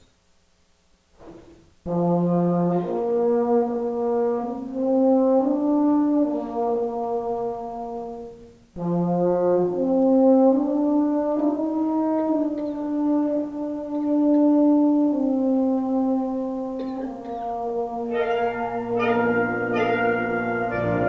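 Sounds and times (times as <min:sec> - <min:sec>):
brass band long held notes: 0:01.8 - 0:21.0.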